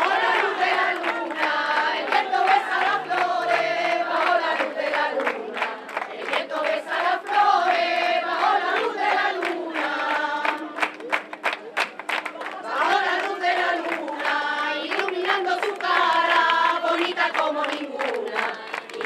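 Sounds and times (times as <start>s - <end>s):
hand clapping: 0.0s - 7.4s, 8.4s - 19.0s
crowd singing together: 0.0s - 11.4s, 12.3s - 19.0s.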